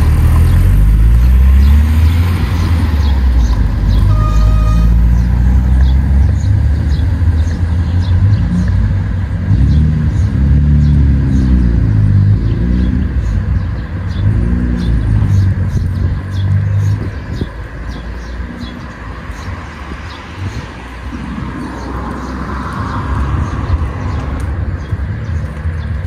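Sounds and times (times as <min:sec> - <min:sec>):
passing vehicle engines rumbling: 0:00.0 - 0:26.0.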